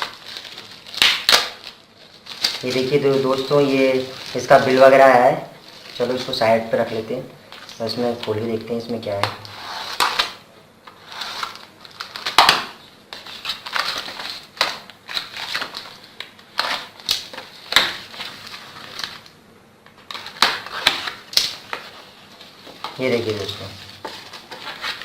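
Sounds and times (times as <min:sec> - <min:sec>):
packaging crinkling and rustling: 0:00.0 - 0:25.0.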